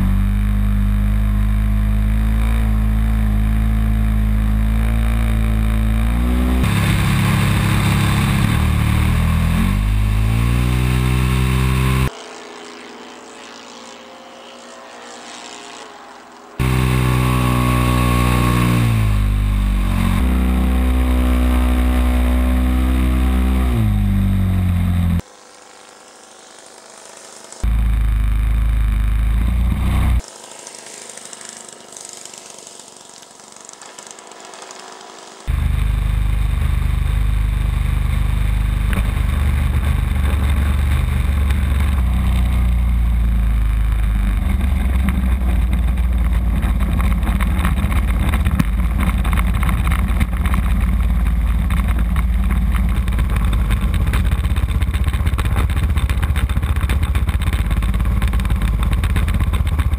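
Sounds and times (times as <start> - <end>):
airframe vibration: 0.0 - 12.1, 14.7 - 59.9
model airplane engine rumble: 0.0 - 59.9
wind: 0.0 - 59.9.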